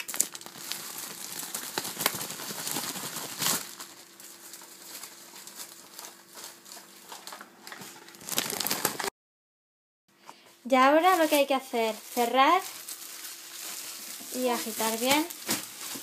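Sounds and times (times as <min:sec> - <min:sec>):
plastic bag crinkling: 0:00.0 - 0:09.1, 0:10.8 - 0:16.0.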